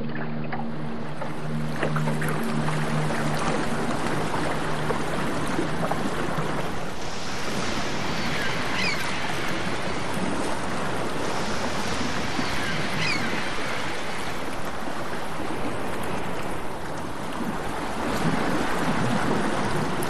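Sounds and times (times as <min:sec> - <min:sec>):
low hum: 0:00.0 - 0:20.0
steady rushing noise: 0:00.0 - 0:20.0.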